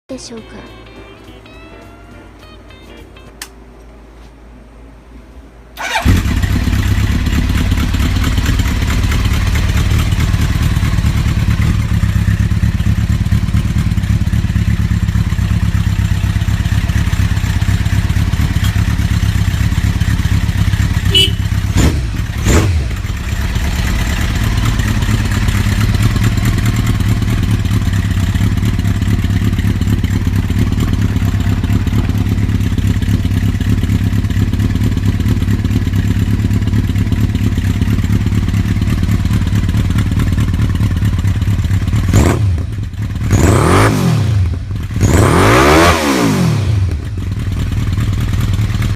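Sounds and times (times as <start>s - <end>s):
motorcycle engine idling: 5.8s - 43.5s, 44.4s - 45.2s, 46.7s - 48.9s.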